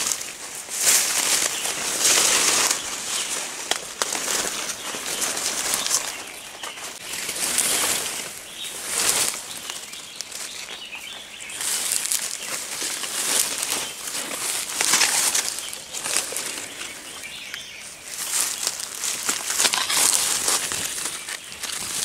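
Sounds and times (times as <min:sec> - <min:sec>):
leaves and twigs rustling: 0:00.0 - 0:22.0.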